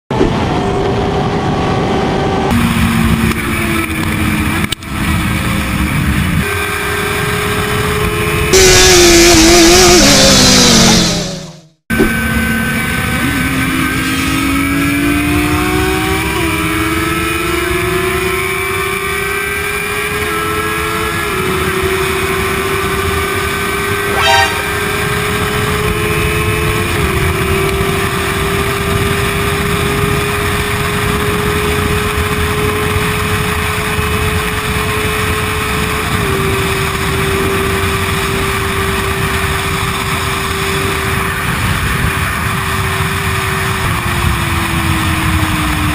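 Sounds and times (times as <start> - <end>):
motorcycle engine accelerating: 0.1 - 45.9.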